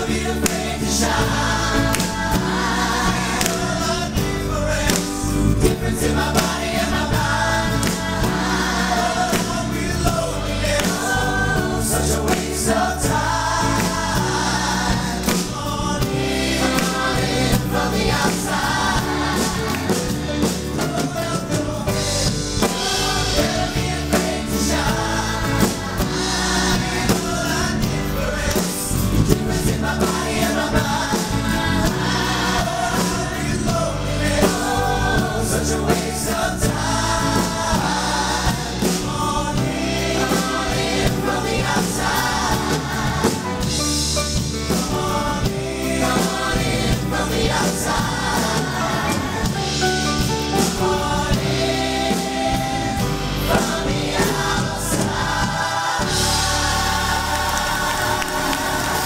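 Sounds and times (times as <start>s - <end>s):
chorus of singers: 0.0s - 59.0s
live band playing: 0.0s - 59.0s.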